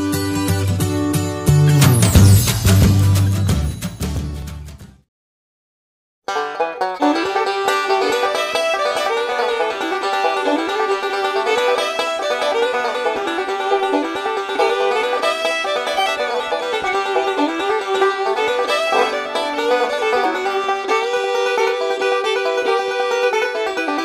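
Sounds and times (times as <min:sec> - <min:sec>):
bluegrass banjo music: 0:00.0 - 0:03.6, 0:06.3 - 0:24.0.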